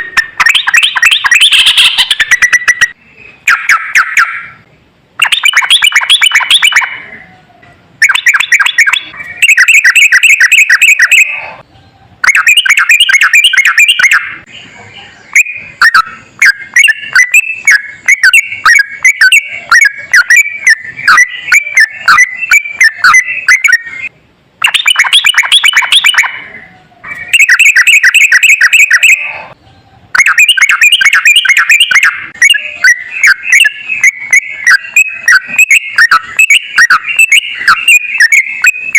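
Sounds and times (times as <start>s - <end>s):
bird singing rolling phrases: 0.0s - 38.9s.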